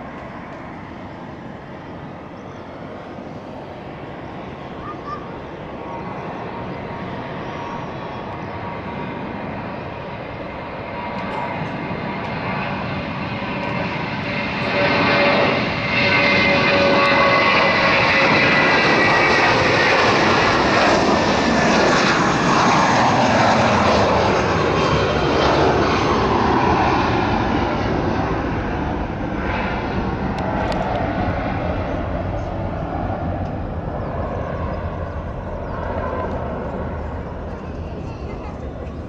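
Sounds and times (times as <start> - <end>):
jet taking off: 0.0 - 39.0.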